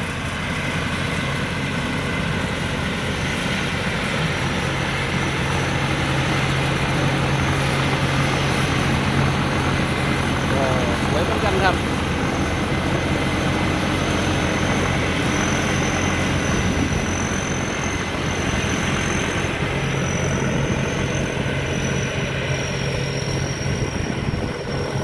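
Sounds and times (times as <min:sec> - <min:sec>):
combine harvester engine running: 0:00.0 - 0:25.0
thin high whine: 0:00.0 - 0:25.0.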